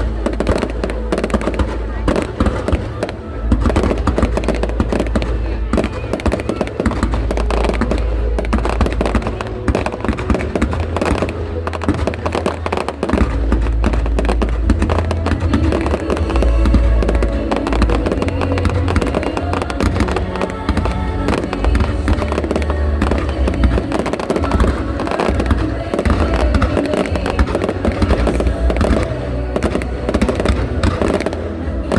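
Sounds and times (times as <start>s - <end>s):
fireworks bursting and crackling: 0.0s - 31.9s
loud music with heavy bass: 0.0s - 31.9s.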